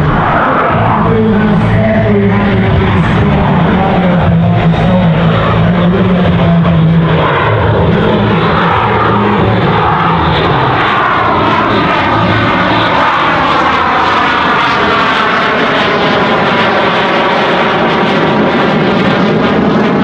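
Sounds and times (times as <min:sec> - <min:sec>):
jet engines roaring overhead: 0:00.0 - 0:20.0.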